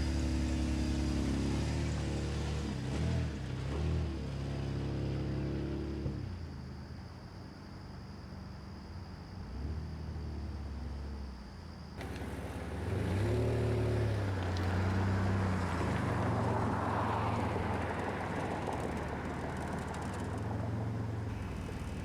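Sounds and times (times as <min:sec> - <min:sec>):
car engine hum: 0:00.0 - 0:06.4, 0:09.3 - 0:22.0
road noise: 0:00.0 - 0:06.4, 0:09.4 - 0:22.0.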